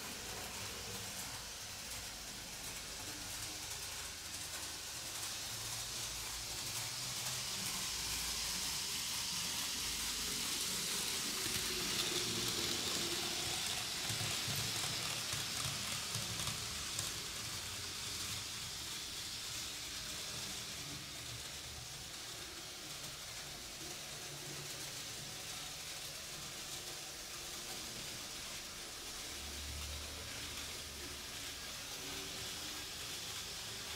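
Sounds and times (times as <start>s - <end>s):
model train whirring on metal track: 0.0s - 33.9s.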